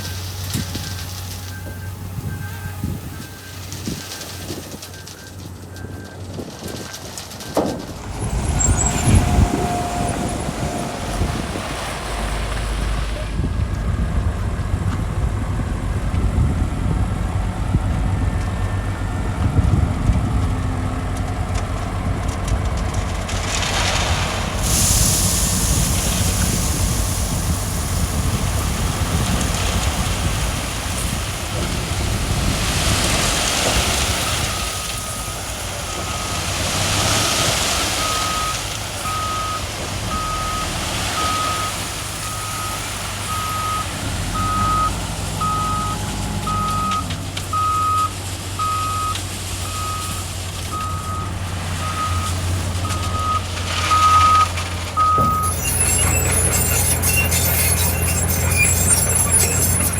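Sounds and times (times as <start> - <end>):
diesel engine rumble: 0.0 - 59.9
gravel rushing noise: 0.0 - 59.9.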